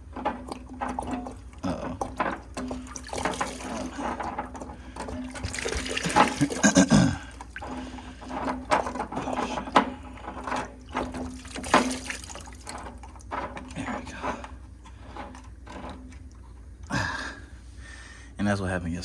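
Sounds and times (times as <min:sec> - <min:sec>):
water gushing and splashing: 0:00.0 - 0:16.3.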